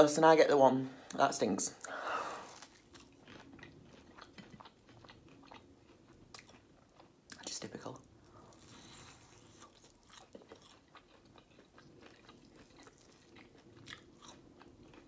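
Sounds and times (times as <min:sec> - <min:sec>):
chewing chicken wing: 0:02.5 - 0:15.0.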